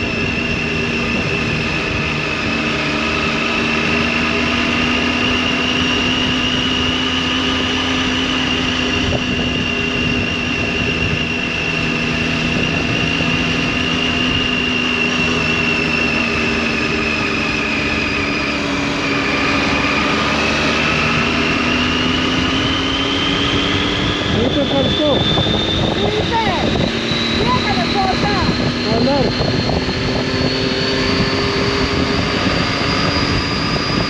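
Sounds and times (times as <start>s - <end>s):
motorcycle engine cruising: 0.0s - 34.0s.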